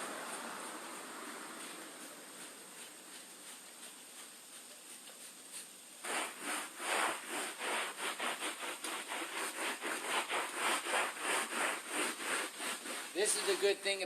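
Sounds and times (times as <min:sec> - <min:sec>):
brush scrubbing rubber mat: 0:00.0 - 0:14.0.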